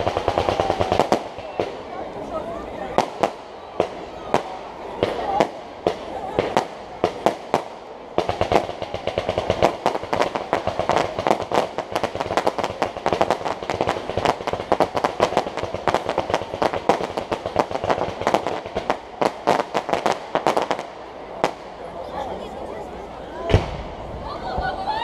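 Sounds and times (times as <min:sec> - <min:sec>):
fireworks bangs and crackles: 0:00.0 - 0:24.8.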